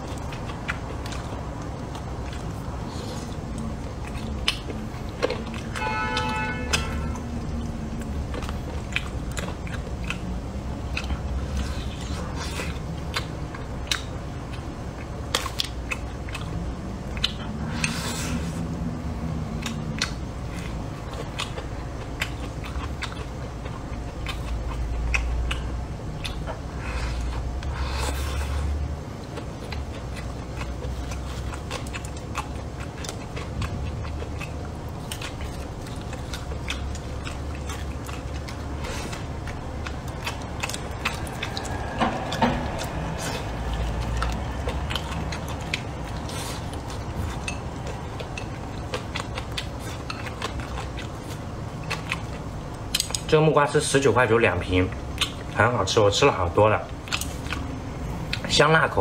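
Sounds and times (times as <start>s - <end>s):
man chewing food: 0.0s - 59.0s.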